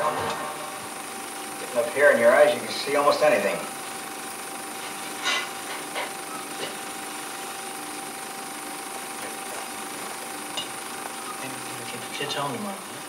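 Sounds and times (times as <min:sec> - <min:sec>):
sound system hum and hiss: 0:00.0 - 0:13.0.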